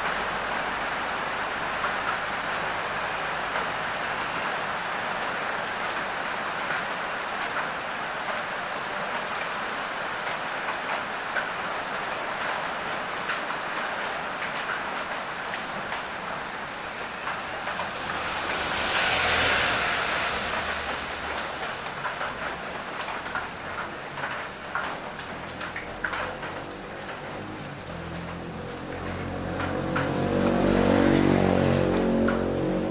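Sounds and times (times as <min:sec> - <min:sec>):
heavy rain falling: 0:00.0 - 0:32.9
vehicle passing on wet road: 0:00.0 - 0:32.9.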